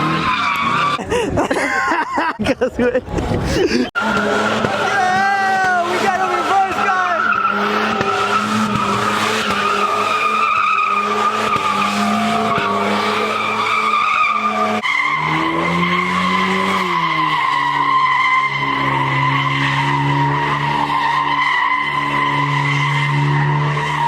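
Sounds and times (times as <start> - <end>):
car engine at high revs: 0.0 - 1.0, 3.1 - 24.0
tyres squealing: 4.0 - 24.0.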